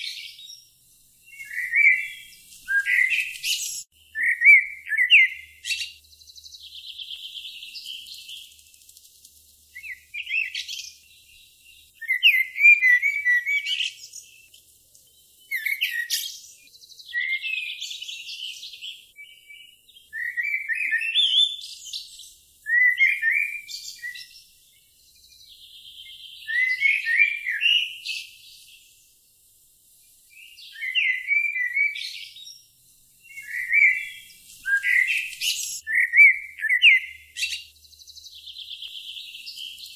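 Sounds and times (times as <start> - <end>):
songbird twittering with buzzy trill: 0.0 - 39.9.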